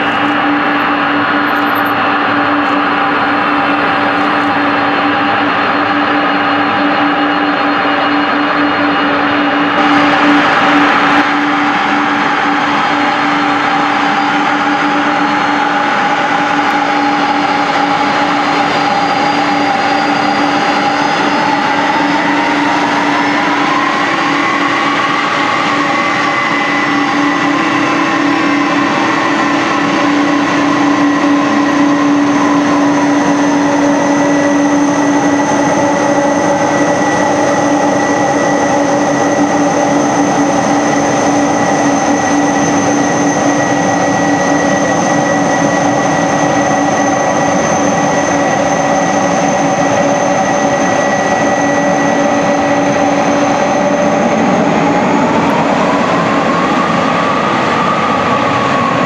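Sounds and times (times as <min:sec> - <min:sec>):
jet engines rumbling with whine: 0:00.0 - 0:59.0.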